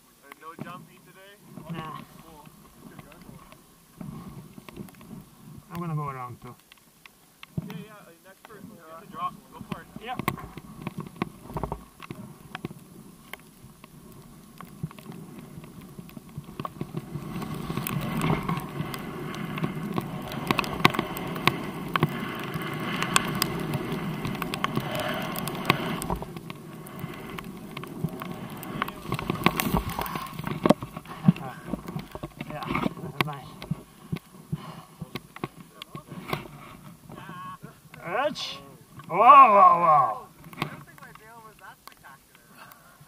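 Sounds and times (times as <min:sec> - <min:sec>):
snow hissing and crunching: 0:00.0 - 0:43.0.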